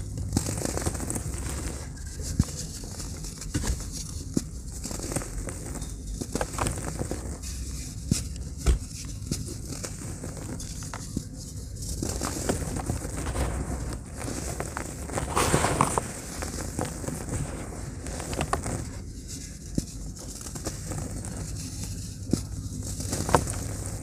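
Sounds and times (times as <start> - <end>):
cement blocks crunching: 0.0 - 24.0
cement crumbs pattering down: 0.0 - 24.0.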